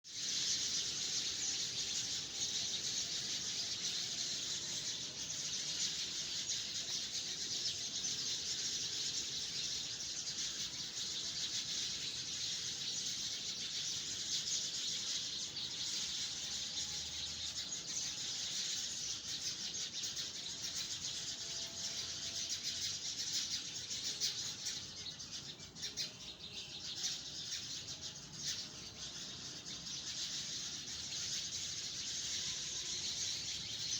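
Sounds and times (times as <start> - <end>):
birds chirping in trees: 0.0 - 33.9.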